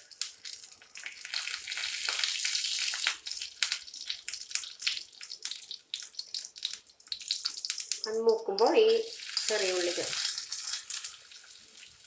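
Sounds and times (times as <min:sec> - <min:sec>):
seeds sizzling and popping in oil: 0:00.0 - 0:12.0.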